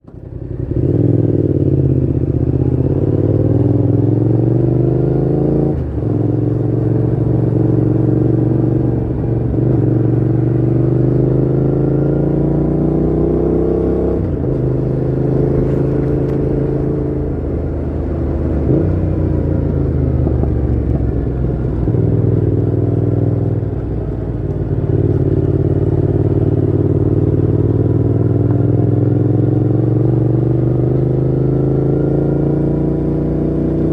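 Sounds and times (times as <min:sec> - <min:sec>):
motorcycle engine accelerating hard: 0:00.0 - 0:33.9.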